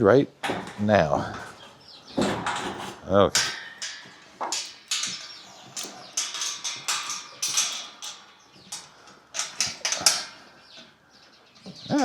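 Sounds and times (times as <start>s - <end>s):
hooves clattering on barn floor: 0.4s - 12.0s.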